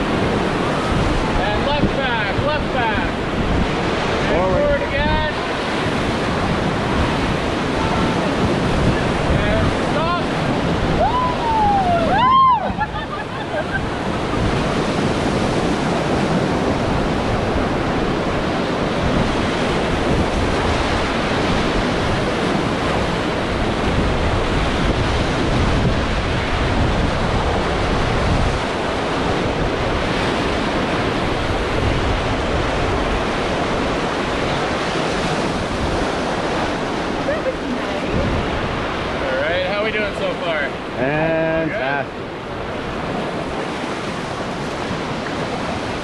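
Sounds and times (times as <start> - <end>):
river water rushing: 0.0 - 46.0
wind noise on microphone: 0.0 - 46.0.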